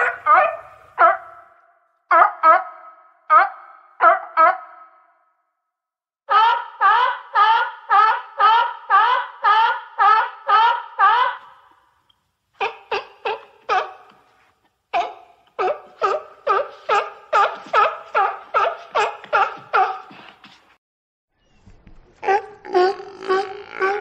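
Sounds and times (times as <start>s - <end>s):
sea lion barking: 0.0s - 4.9s, 6.3s - 11.7s, 12.6s - 20.6s, 22.2s - 24.0s.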